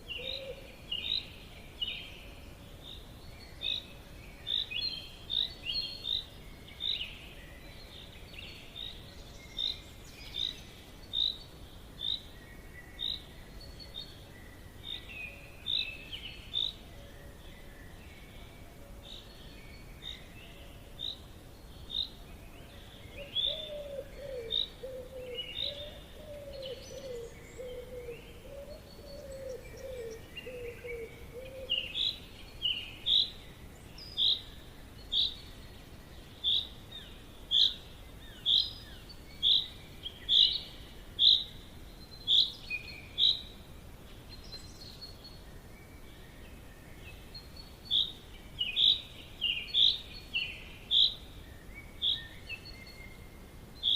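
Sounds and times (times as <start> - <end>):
faint background hiss: 0.0 - 53.9.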